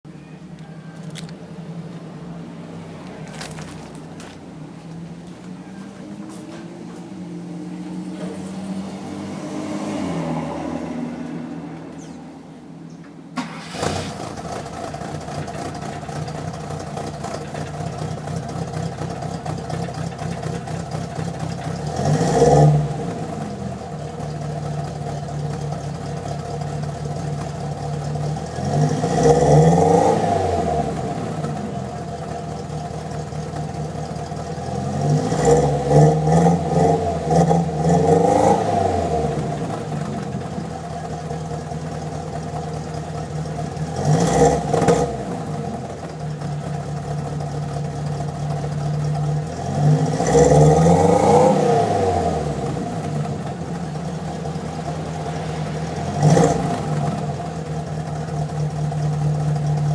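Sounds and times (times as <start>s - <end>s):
car engine running and revving: 0.9s - 12.6s, 13.5s - 59.9s.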